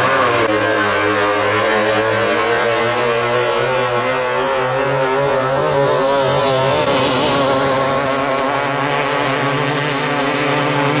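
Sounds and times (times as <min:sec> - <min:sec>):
racing speedboat engines: 0:00.0 - 0:11.0.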